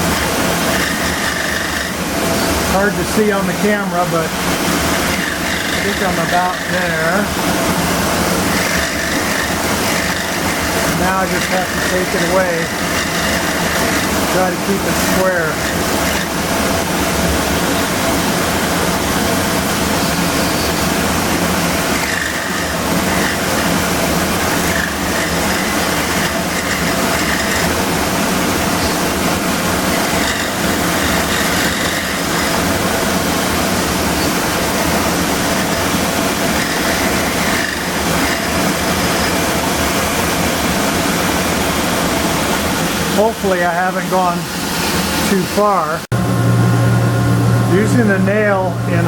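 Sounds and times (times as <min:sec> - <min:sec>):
scroll saw cutting wood: 0:00.0 - 0:40.2.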